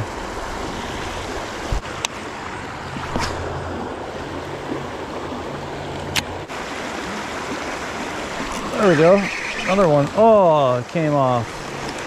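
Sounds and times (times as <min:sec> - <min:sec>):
creek water rushing over a dam: 0:00.0 - 0:12.0.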